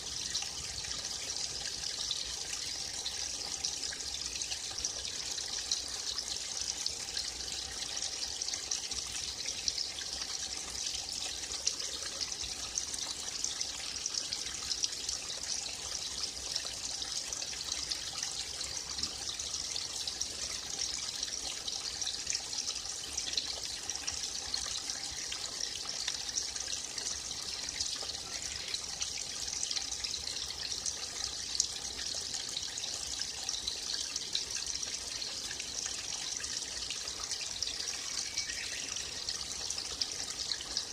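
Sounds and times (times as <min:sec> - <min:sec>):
forest stream trickling and splashing: 0:00.0 - 0:40.9.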